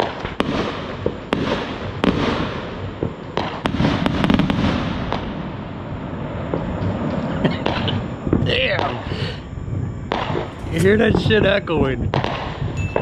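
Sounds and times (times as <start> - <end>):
aerial fireworks bangs: 0.0 - 13.0.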